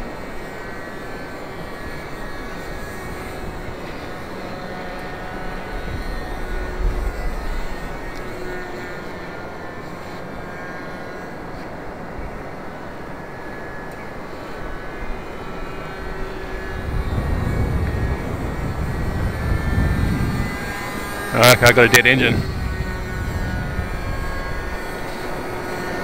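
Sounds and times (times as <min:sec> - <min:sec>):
model plane engine buzzing: 0:00.0 - 0:26.0.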